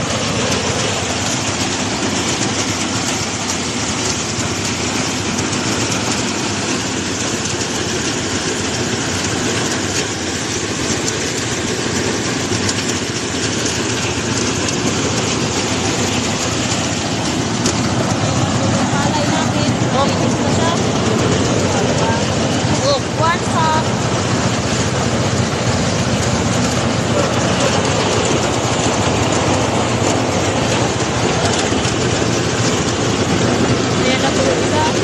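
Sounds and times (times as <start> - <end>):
harvesting machine drone: 0.0 - 35.0.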